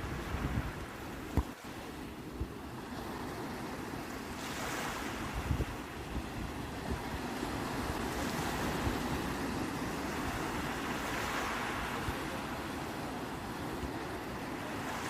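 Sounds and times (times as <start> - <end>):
sea waves washing on shore: 0.0 - 15.0
wind rumbling on microphone: 0.0 - 15.0.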